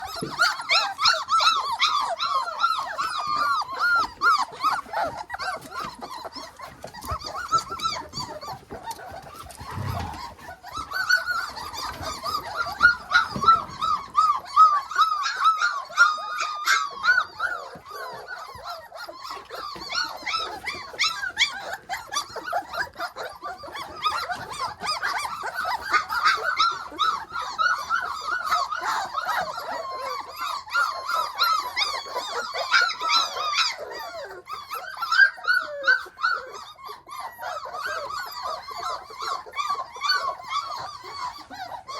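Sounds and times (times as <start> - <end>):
puppies whining and yelping: 0.0 - 41.9.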